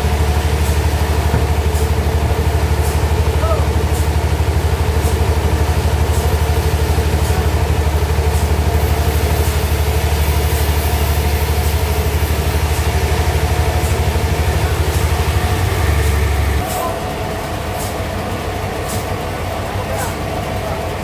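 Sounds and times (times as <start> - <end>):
sawmill engine throbbing: 0.0 - 21.0.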